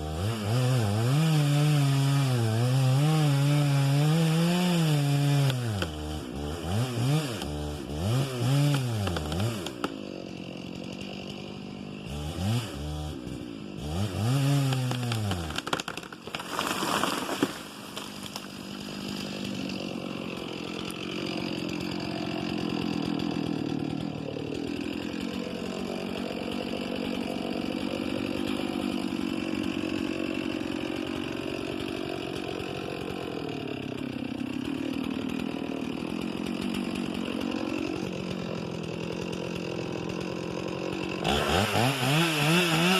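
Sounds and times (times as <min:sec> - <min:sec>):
chainsaw revving and cutting wood: 0:00.0 - 0:42.9.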